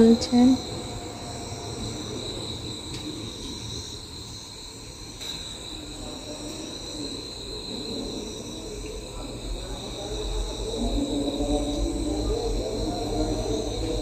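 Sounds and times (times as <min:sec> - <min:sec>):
night insects trilling: 0:00.0 - 0:14.0.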